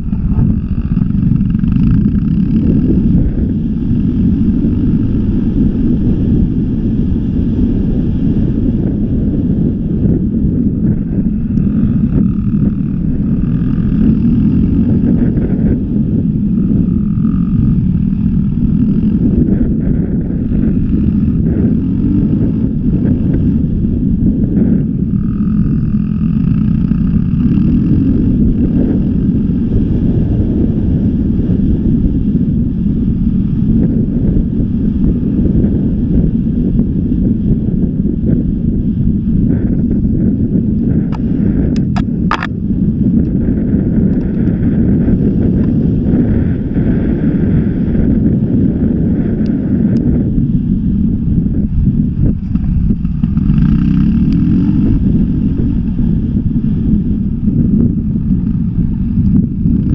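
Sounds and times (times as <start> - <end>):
motorcycle engine under throttle: 0.0 - 59.9
wind buffeting microphone: 0.0 - 59.9.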